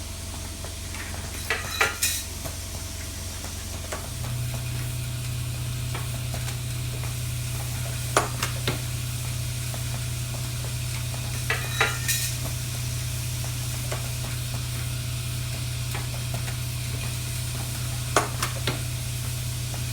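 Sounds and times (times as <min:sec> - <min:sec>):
welding machine clicks and clacks: 0:00.1 - 0:19.9.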